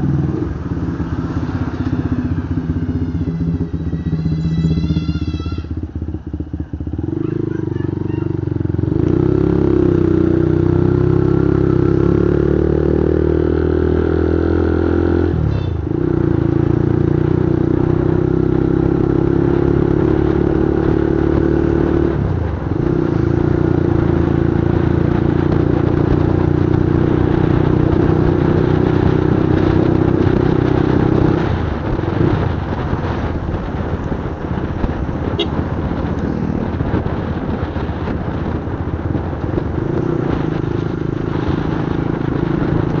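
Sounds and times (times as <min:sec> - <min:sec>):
motorcycle engine running: 0:00.0 - 0:14.4, 0:15.2 - 0:43.0.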